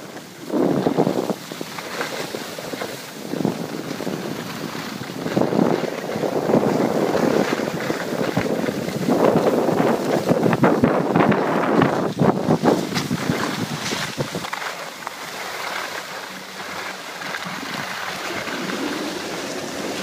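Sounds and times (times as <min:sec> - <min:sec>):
skis sliding on packed snow: 0:00.0 - 0:20.0
wind rushing over microphone: 0:00.0 - 0:20.0.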